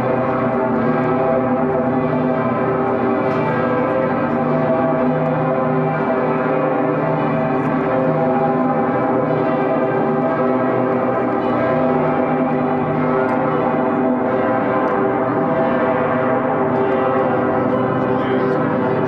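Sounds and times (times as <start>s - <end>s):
large bell ringing: 0.0s - 19.0s.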